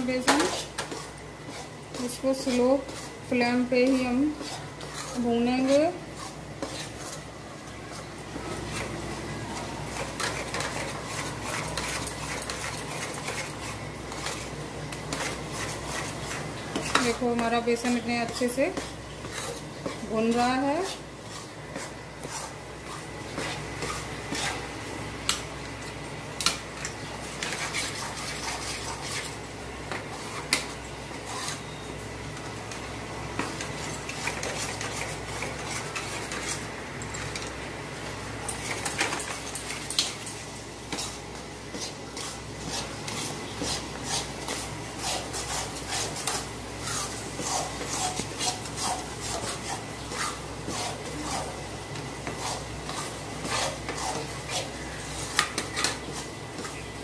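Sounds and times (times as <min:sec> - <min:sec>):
metal spatula scraping a pan: 0:00.0 - 0:24.7, 0:26.8 - 0:31.9, 0:33.4 - 0:36.7, 0:41.0 - 0:57.0.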